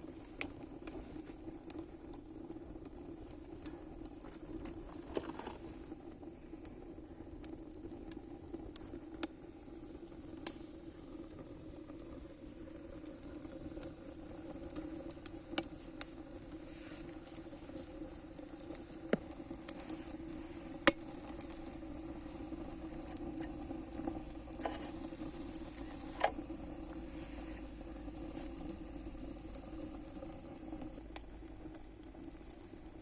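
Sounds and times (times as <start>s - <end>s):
fire popping: 0.0s - 33.0s
wood fire rumbling: 0.0s - 33.0s.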